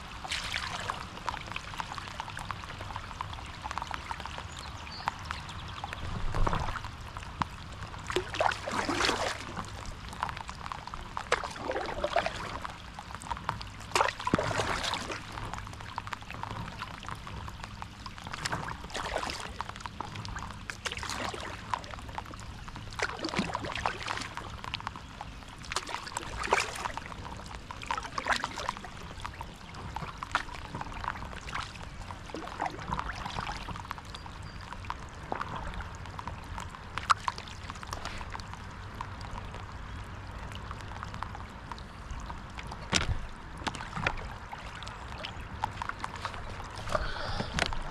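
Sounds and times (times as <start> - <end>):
paddle strokes in water: 0.0 - 47.9
water splashing and trickling: 0.0 - 47.9.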